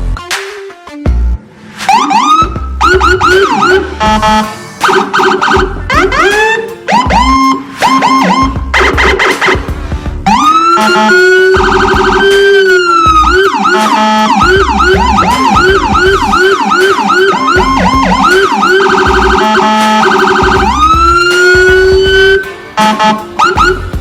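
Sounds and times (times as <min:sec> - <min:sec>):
deep low siren rumble: 0:01.9 - 0:09.6, 0:10.2 - 0:24.0
electronic siren wailing and yelping: 0:01.9 - 0:24.0.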